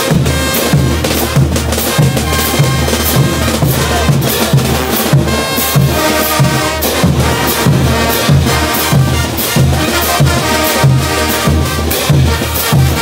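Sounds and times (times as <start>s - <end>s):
bass drums: 0.0s - 13.0s
brass horns playing: 0.0s - 13.0s.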